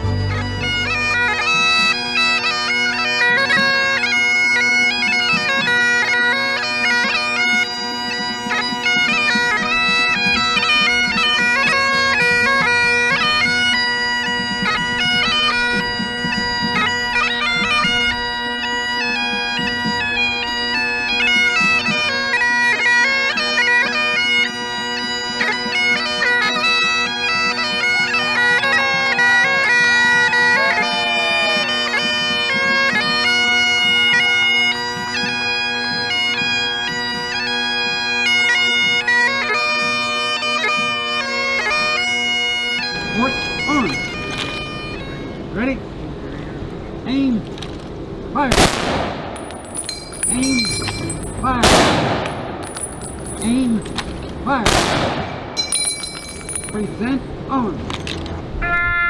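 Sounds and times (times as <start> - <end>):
bagpipes playing slow tune: 0.0 - 47.8, 48.6 - 57.4.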